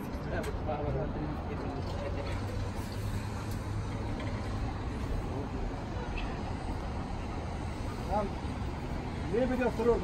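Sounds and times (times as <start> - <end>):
distant road traffic rumble: 0.0 - 10.0
faint voices of people: 0.0 - 10.0.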